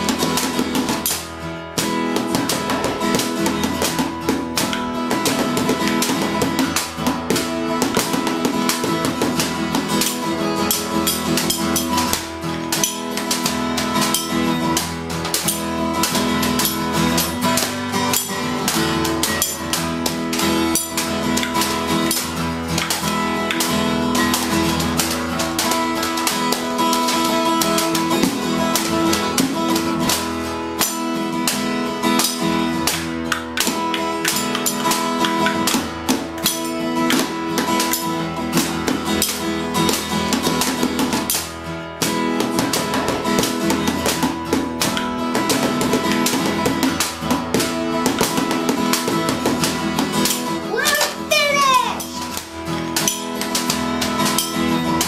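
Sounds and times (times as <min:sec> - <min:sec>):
strummed acoustic guitar music: 0:00.0 - 0:55.0.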